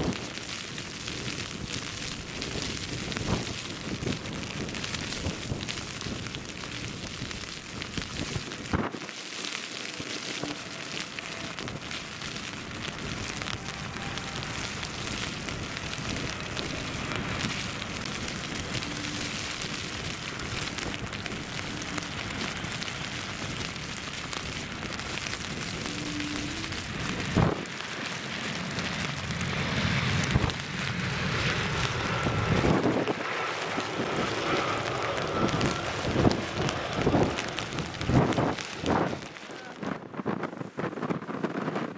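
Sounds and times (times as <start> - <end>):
wind buffeting microphone: 0.0 - 9.1, 10.0 - 41.9
jet engines roaring: 0.0 - 39.8
rain: 0.0 - 41.9.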